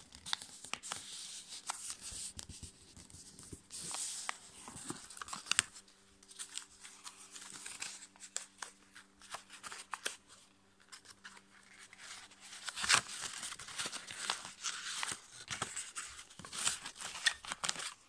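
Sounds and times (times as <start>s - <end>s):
paper crinkling and crackling: 0.0s - 18.0s.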